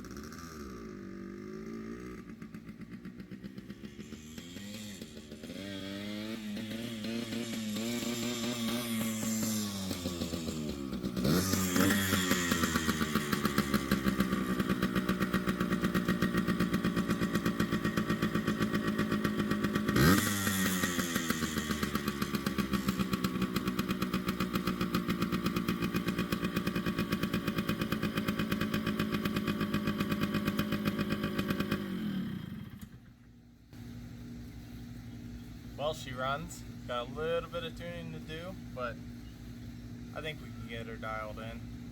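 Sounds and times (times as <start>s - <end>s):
engine throttle blips: 0.0s - 41.9s
two-stroke engine running: 0.0s - 41.9s.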